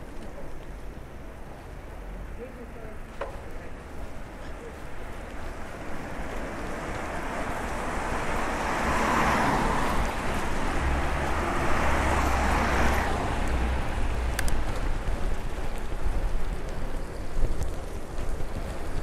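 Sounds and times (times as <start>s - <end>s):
tyres hissing on wet street: 0.0s - 19.0s
wind rumble on microphone: 0.0s - 19.0s.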